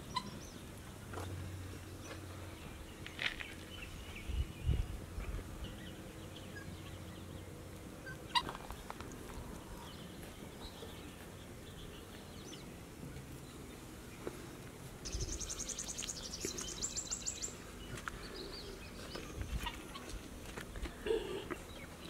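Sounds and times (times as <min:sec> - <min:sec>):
birds chirping and calling: 0:00.0 - 0:13.8, 0:15.0 - 0:22.0.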